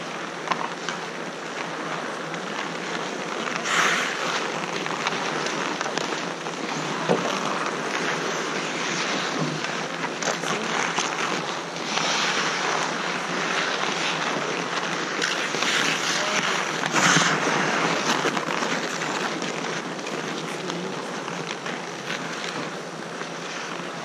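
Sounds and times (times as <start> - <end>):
hockey sticks and puck clacking: 0.0 - 24.0
skates scraping on ice: 0.0 - 24.0.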